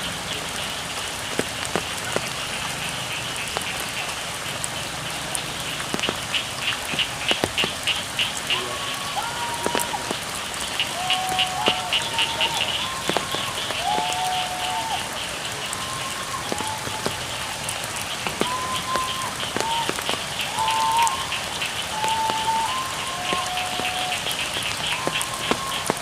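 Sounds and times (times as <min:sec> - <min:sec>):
sharp drip ticks: 0:00.0 - 0:26.0
steady rain: 0:00.0 - 0:26.0
frogs calling: 0:00.3 - 0:26.0.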